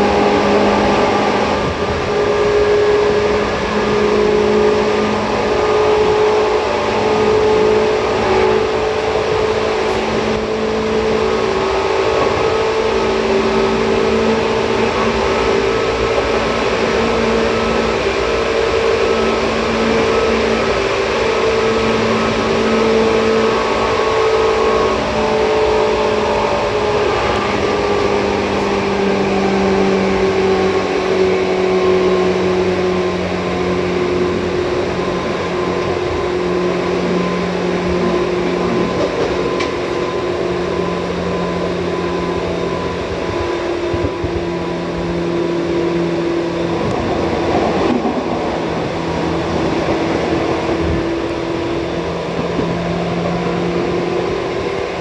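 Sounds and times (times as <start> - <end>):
train motor whine: 0.0 - 55.0
train wheels rumbling on rail: 0.0 - 55.0.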